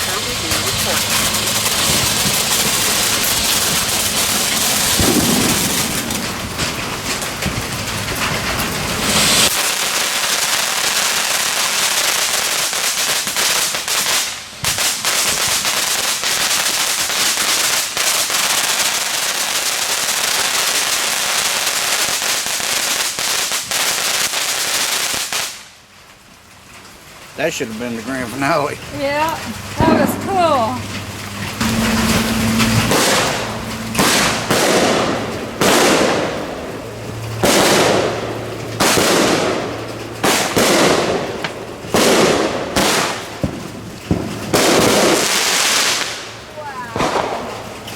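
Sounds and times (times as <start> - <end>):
firework crackling: 0.0 - 47.9.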